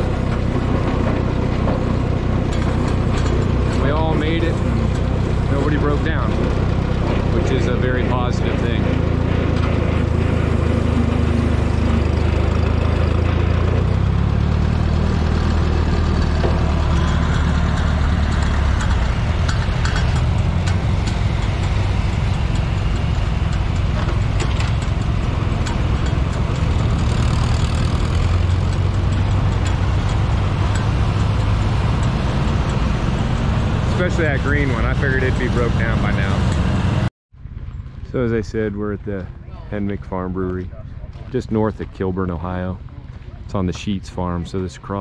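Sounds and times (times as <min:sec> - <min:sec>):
other tractors running nearby: 0:00.0 - 0:45.0
tractor engine droning: 0:00.0 - 0:45.0.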